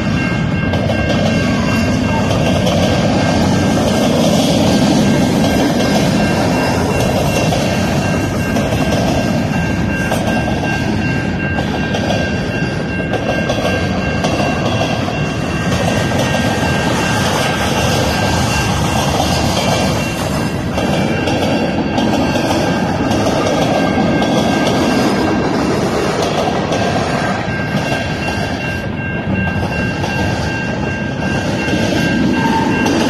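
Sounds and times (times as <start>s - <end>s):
freight train wheels rumbling on rail: 0.0s - 33.0s.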